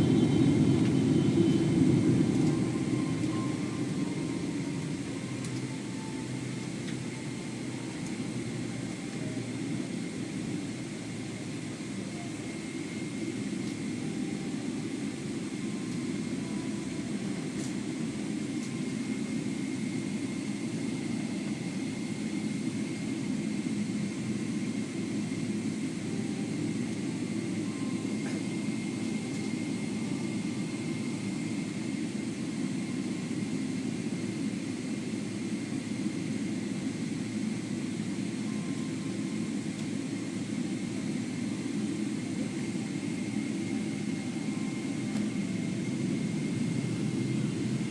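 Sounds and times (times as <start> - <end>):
faint high whine: 0.0 - 47.9
jet engine cabin drone: 0.0 - 47.9.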